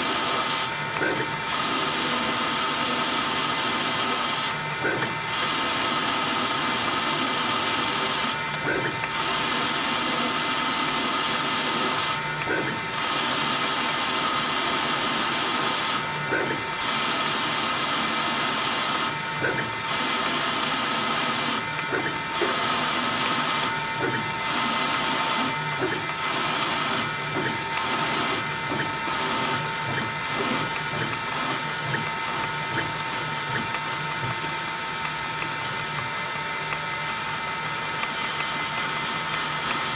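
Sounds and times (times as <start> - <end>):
lathe motor whine: 0.0 - 39.9.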